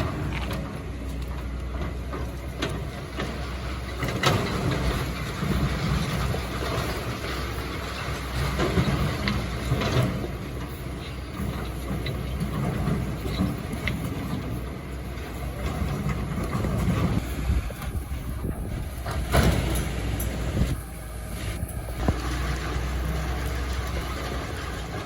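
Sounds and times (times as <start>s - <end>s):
excavator engine running: 0.0s - 25.0s
excavator knocks and clanks: 0.0s - 25.0s.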